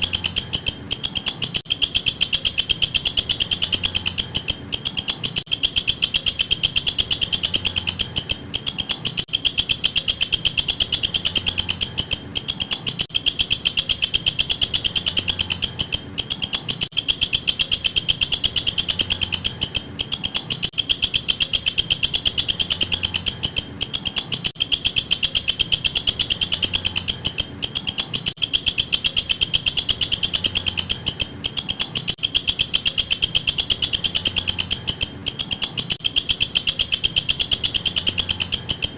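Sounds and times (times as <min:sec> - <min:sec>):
katydid ticking call: 0:00.0 - 0:38.9.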